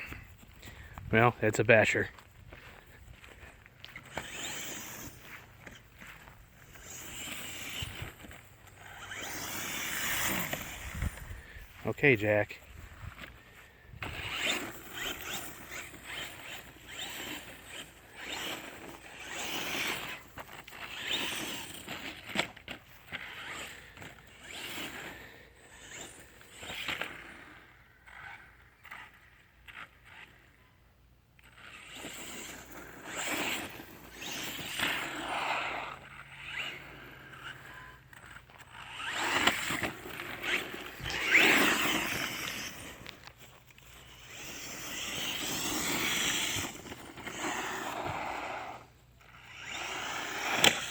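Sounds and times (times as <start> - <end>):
rc truck motor whirring: 2.6 - 50.9.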